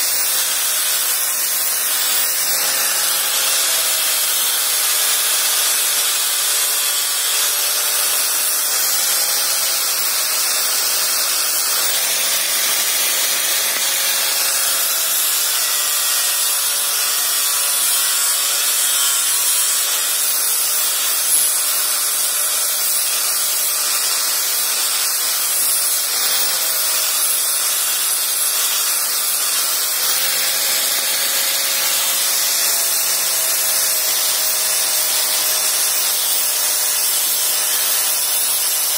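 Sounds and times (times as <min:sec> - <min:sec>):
angle grinder sanding wood: 0:00.0 - 0:38.9.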